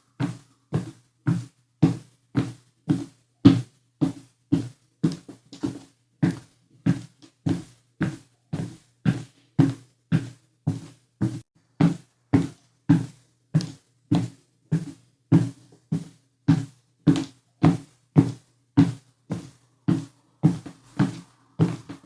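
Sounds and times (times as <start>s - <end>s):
heavy footsteps on stairs: 0.2s - 22.0s.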